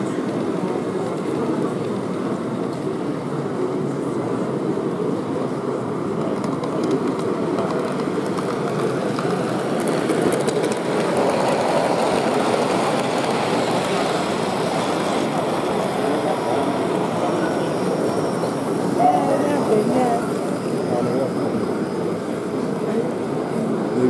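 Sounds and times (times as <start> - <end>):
busy hall hum: 0.0 - 24.0
model train running: 0.0 - 24.0.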